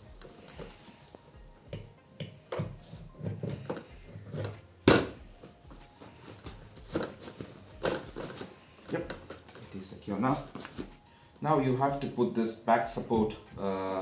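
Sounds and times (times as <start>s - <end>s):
office chair knocks and clunks: 0.0s - 11.0s, 12.8s - 13.6s.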